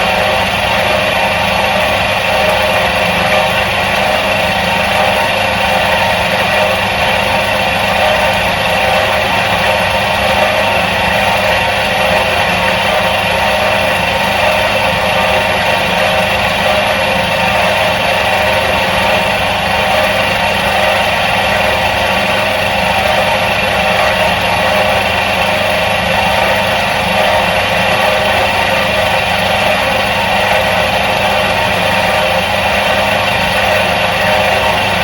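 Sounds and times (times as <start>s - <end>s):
washing machine motor humming: 0.0s - 35.0s.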